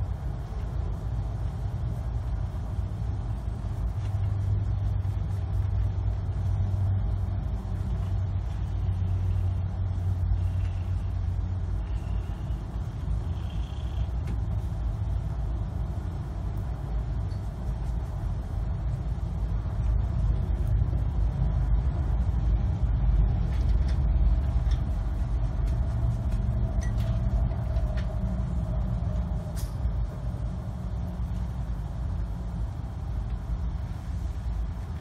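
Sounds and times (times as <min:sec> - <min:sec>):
steady low rumble: 0:00.0 - 0:35.0.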